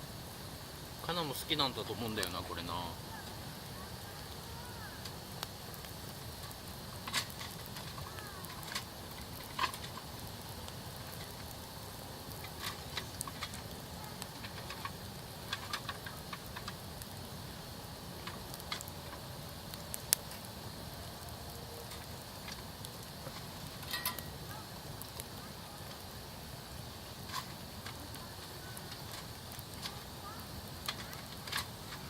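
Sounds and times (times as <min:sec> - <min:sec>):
campfire crackling: 0:00.0 - 0:32.0.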